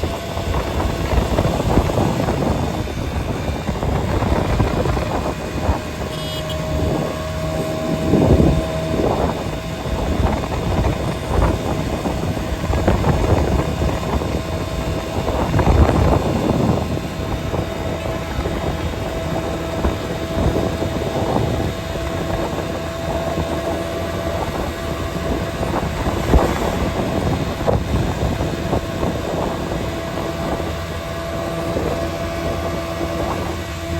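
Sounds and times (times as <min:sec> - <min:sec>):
vehicle rumbling along road: 0:00.0 - 0:33.9.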